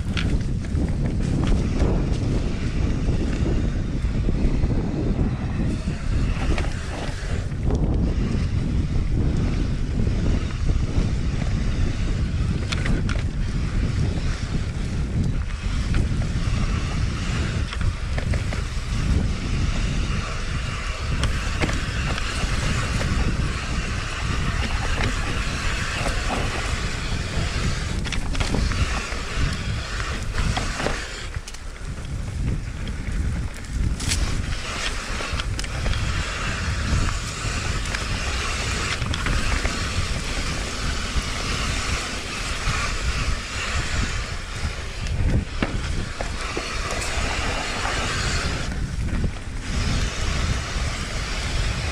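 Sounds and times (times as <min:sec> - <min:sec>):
bike tyre noise: 0:00.0 - 0:51.9
wind rushing over microphone: 0:00.0 - 0:51.9.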